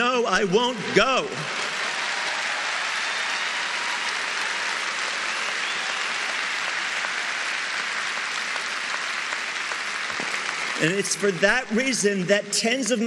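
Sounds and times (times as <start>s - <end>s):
audience applauding: 1.0s - 13.0s.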